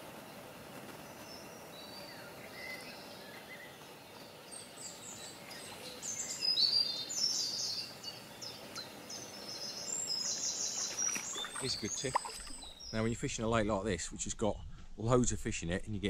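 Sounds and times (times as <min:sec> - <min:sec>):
outdoor background hiss: 0:00.0 - 0:16.0
small birds chirping: 0:00.1 - 0:13.3.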